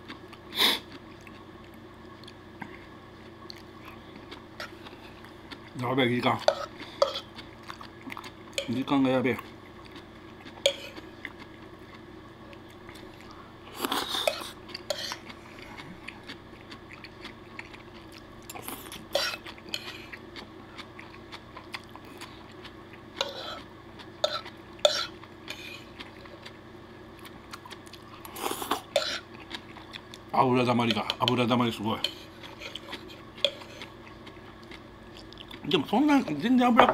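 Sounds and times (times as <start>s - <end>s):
chewing: 0.0s - 26.6s, 27.2s - 35.8s.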